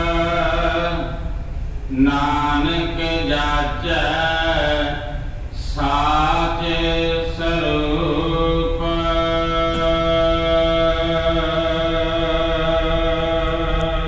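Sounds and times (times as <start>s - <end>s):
person chanting a hymn: 0.0s - 14.0s
steady low hum: 0.0s - 14.0s.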